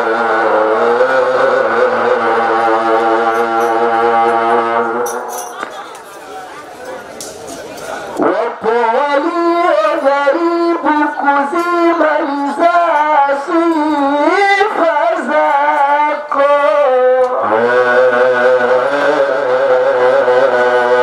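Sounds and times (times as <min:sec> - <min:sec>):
solo voice singing: 0:00.0 - 0:05.0, 0:08.2 - 0:21.0
lower steady vocal part: 0:00.0 - 0:05.3, 0:08.0 - 0:21.0.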